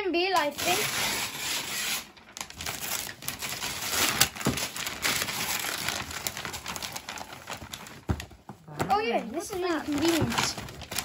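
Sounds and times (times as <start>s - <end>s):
wrapping paper tearing and crumpling: 0.4s - 8.3s, 9.0s - 11.0s.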